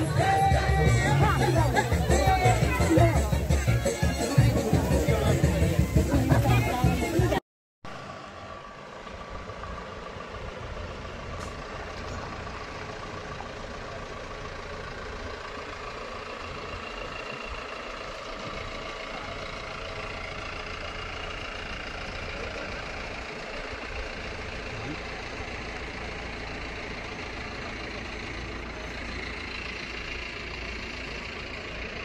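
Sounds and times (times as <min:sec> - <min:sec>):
fire truck engine idling: 0:00.0 - 0:32.0.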